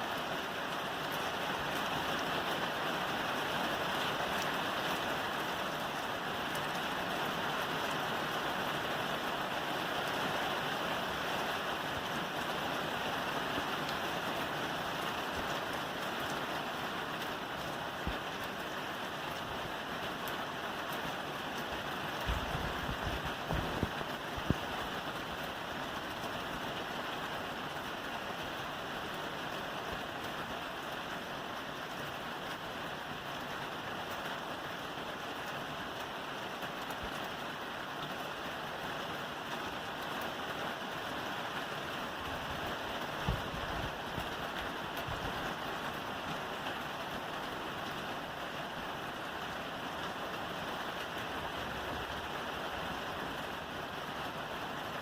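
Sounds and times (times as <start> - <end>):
rain falling on a roof: 0.0 - 55.0.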